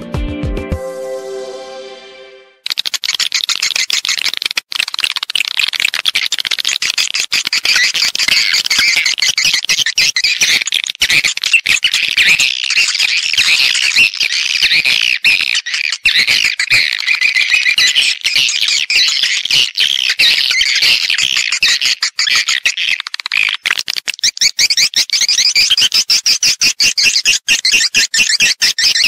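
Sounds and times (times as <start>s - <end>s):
swiftlets twittering: 2.6s - 29.0s.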